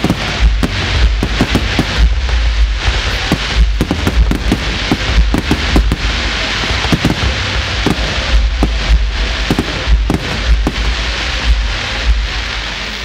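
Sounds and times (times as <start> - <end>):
deep rumble of booms: 0.0 - 13.0
fireworks bangs and crackling: 0.0 - 13.0.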